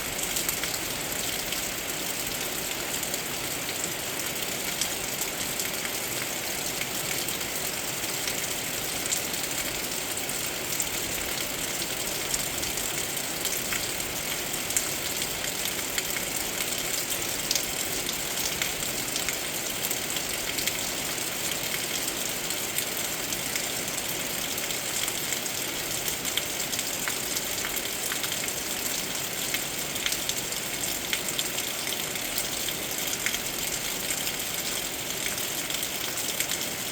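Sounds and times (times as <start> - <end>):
heavy rain: 0.0 - 36.9.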